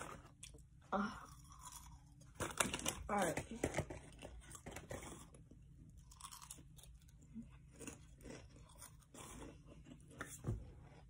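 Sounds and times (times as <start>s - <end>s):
chip crunching in mouth: 0.0s - 3.1s, 3.7s - 10.4s.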